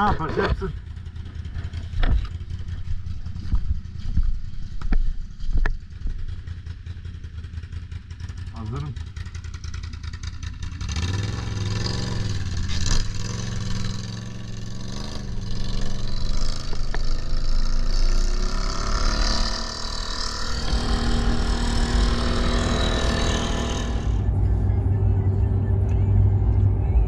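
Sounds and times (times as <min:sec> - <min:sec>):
atv engine revving: 0:00.0 - 0:26.8.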